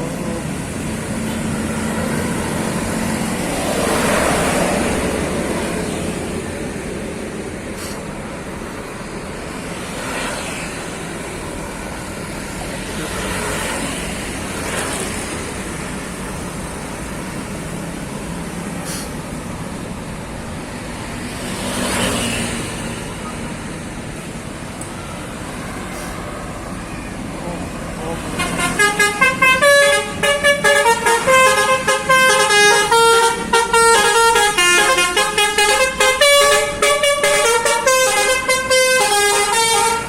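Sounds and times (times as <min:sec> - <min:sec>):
road traffic rumble: 0:00.0 - 0:40.0
vehicles passing: 0:00.0 - 0:40.0.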